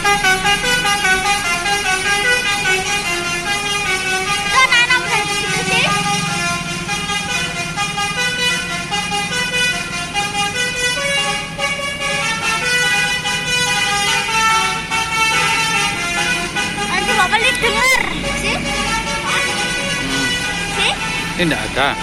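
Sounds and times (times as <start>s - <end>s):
musical multi-tone bus horn: 0.0s - 22.0s.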